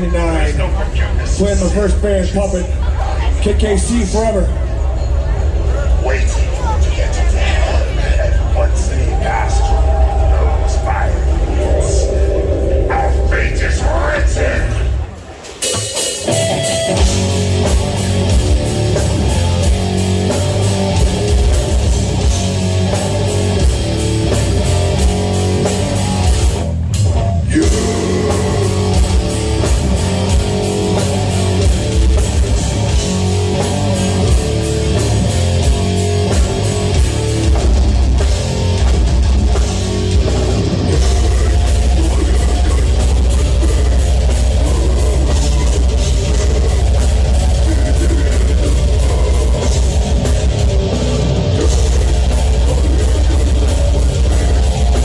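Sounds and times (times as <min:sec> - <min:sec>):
bass guitar: 0:00.0 - 0:55.0
distorted electric guitars: 0:00.0 - 0:55.0
drum kit: 0:09.2 - 0:55.0.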